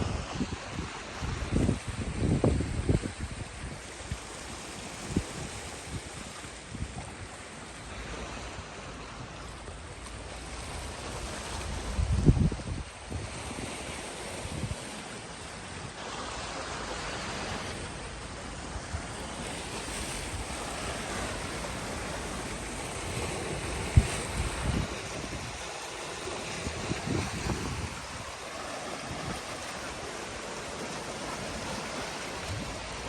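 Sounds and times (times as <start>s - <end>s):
wind buffeting microphone: 0.0s - 8.3s, 10.3s - 33.0s
sea waves washing ashore: 0.0s - 33.0s.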